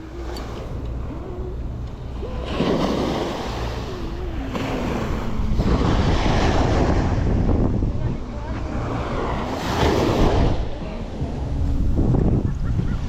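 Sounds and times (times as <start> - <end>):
sea water washing: 0.0 - 12.1
wind buffeting microphone: 0.0 - 13.0.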